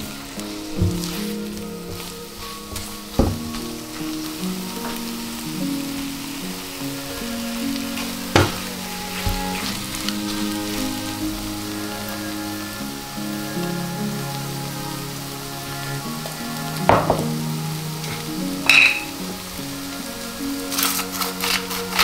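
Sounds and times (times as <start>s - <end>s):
eggs sizzling in a frying pan: 0.0s - 22.0s.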